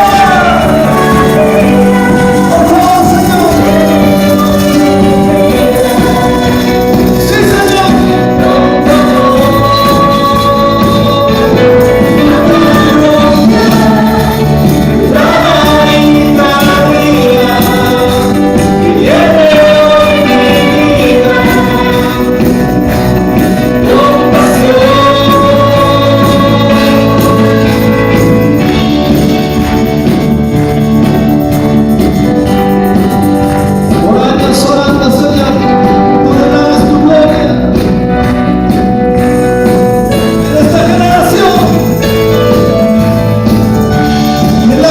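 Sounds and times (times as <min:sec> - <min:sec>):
tambourine: 0:00.0 - 0:35.5, 0:37.8 - 0:44.9
group singing worship music: 0:00.0 - 0:44.9.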